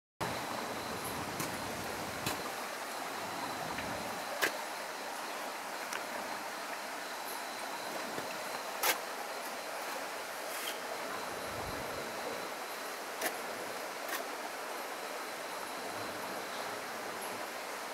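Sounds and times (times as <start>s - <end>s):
faint high steady tone: 0.2s - 13.9s, 14.5s - 17.9s
outdoor background hiss: 0.2s - 17.9s.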